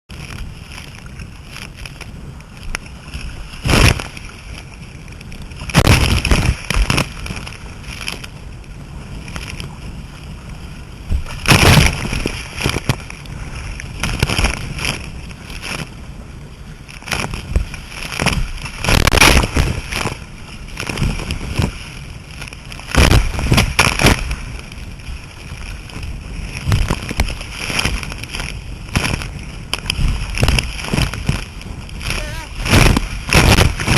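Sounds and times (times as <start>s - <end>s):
rush of sea: 0.1s - 33.9s
waves slapping against hull: 0.1s - 33.9s.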